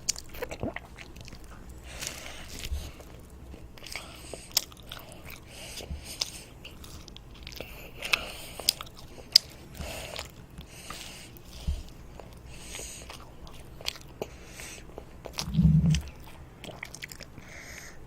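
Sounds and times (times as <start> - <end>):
child chewing crunchy toast: 0.0 - 18.0.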